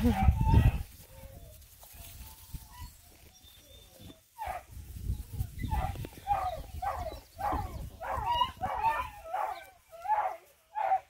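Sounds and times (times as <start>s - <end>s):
dogs whining and yelping: 0.0s - 10.4s.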